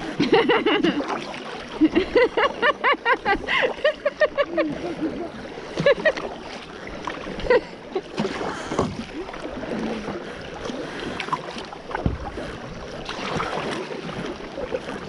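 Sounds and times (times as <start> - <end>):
paddle strokes in water: 0.0 - 15.0
water splashes: 0.0 - 15.0
water washing against kayak hull: 0.0 - 15.0.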